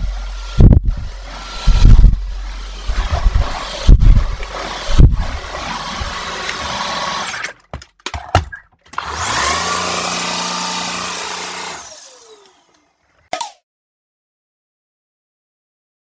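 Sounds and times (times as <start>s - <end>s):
stick vacuum motor whining: 0.0s - 13.2s.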